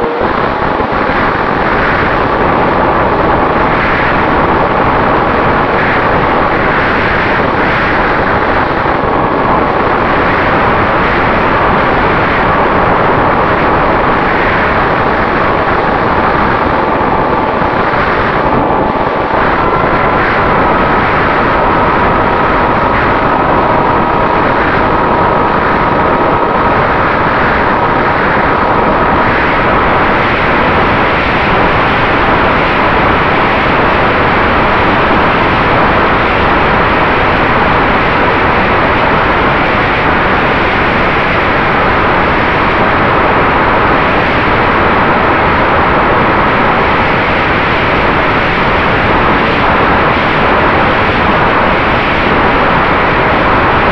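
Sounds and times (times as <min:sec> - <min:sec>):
wind rush: 0:00.0 - 0:53.9.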